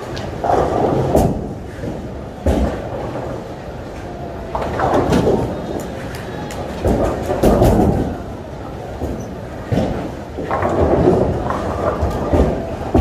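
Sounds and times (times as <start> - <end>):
bowling balls rumbling and knocking: 0.0 - 13.0.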